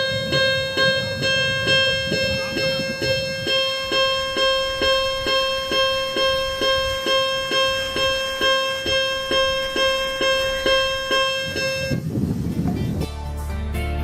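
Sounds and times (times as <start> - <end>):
level crossing electronic bell: 0.0 - 12.0.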